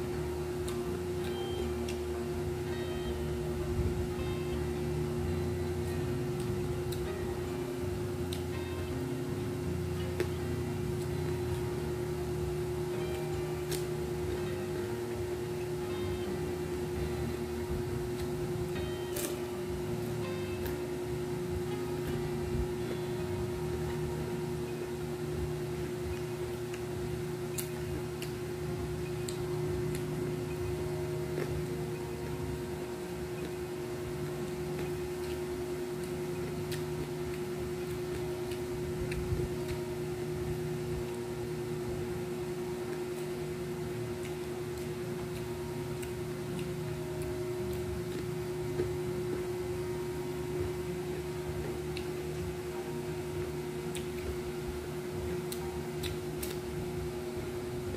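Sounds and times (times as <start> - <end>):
steady mechanical hum: 0.0 - 57.9.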